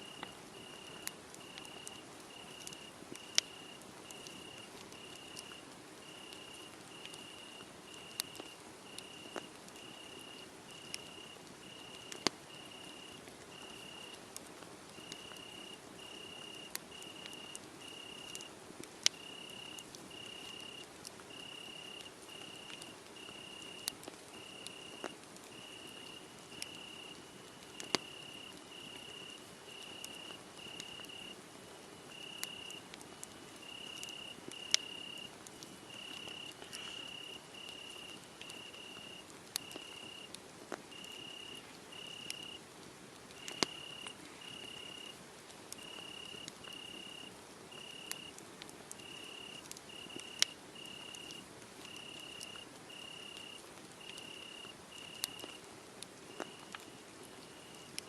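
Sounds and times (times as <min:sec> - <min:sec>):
cricket chirping: 0:00.0 - 0:14.2, 0:15.0 - 0:18.5, 0:19.1 - 0:31.4, 0:32.1 - 0:32.8, 0:33.6 - 0:40.3, 0:40.9 - 0:42.6, 0:43.4 - 0:45.2, 0:45.8 - 0:48.4, 0:49.0 - 0:55.6, 0:56.3 - 0:58.0
wood fire crackling and popping: 0:00.1 - 0:31.4, 0:32.0 - 0:42.6, 0:43.2 - 0:47.0, 0:47.7 - 0:58.0.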